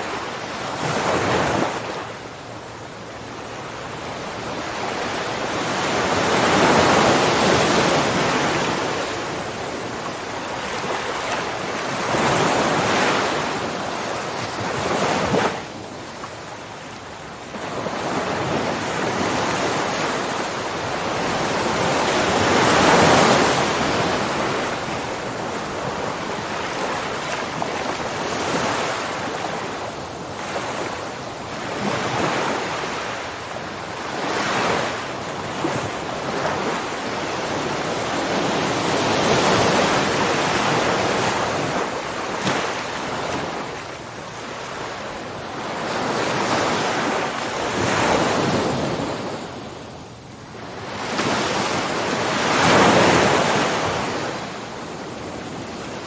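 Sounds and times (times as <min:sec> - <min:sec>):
ocean waves breaking: 0:00.0 - 0:49.7, 0:50.5 - 0:56.0.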